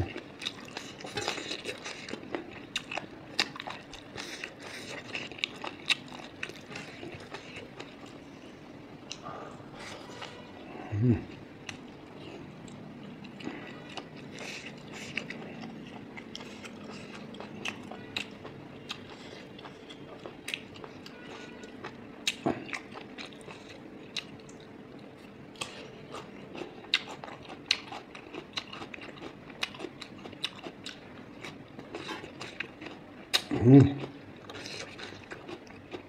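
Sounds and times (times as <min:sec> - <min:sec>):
mouth chewing and crunching: 0:00.0 - 0:08.2, 0:11.2 - 0:36.0.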